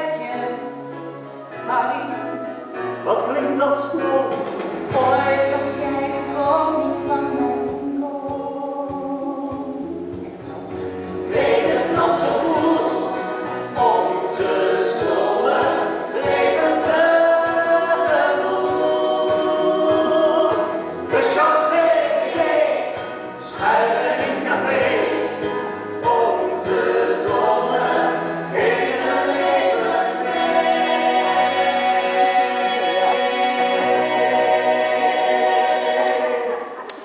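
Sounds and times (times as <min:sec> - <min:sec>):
band accompaniment: 0:00.9 - 0:37.0
several voices singing together: 0:03.8 - 0:09.8, 0:11.1 - 0:37.0.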